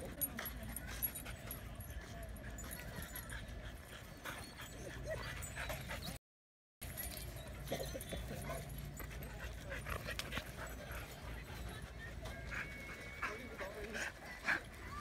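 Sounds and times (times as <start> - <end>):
dogs whimpering and whining: 0.0 - 6.2, 7.0 - 15.0.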